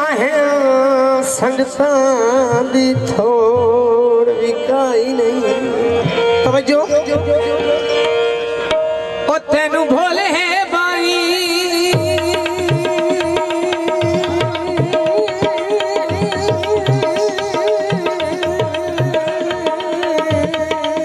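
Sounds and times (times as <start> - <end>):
tabla drumming: 0.0 - 21.0.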